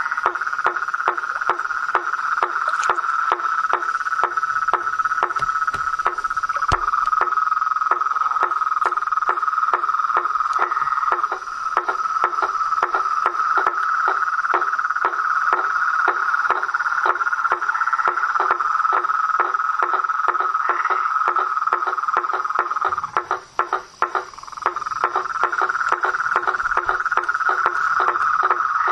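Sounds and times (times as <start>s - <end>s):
high insect trill: 0.0s - 28.9s
pulsing frog call: 0.0s - 28.9s.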